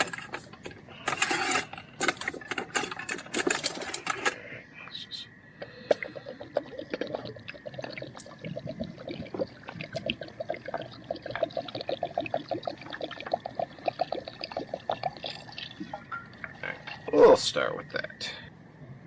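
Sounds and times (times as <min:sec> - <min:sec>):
water pouring and gurgling: 0:00.0 - 0:04.4, 0:05.6 - 0:17.7.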